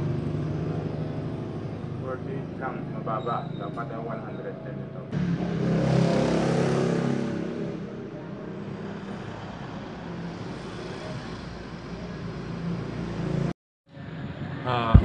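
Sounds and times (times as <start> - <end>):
vehicle engine passing: 0.0 - 13.5
traffic noise: 0.0 - 15.0.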